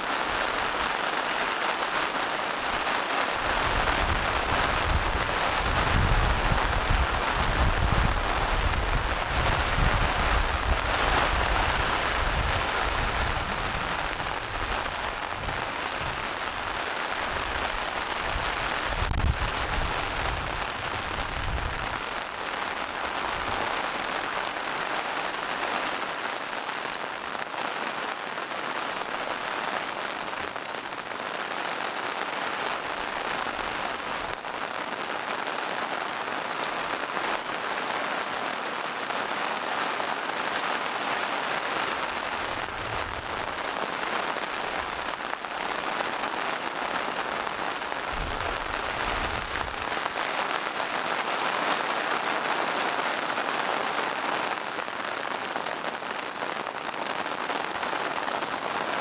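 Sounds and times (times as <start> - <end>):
rain on leaves and rocks: 0.0 - 59.0.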